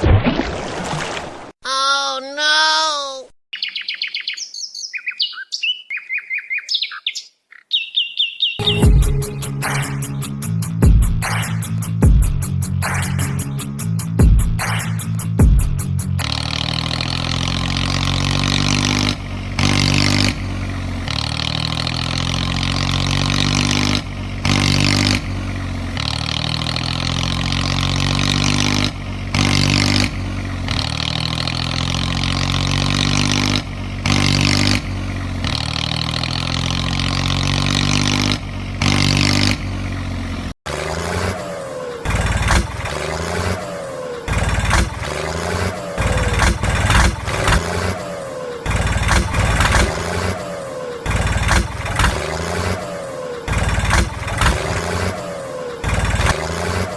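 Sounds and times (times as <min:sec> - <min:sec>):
engine revving with clattering: 0:08.6 - 0:56.9
engine running steadily: 0:08.6 - 0:56.9.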